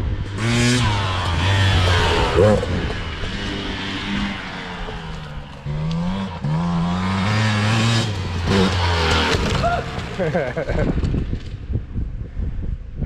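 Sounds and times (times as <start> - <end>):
dirt bike engine revving: 0.0 - 11.5.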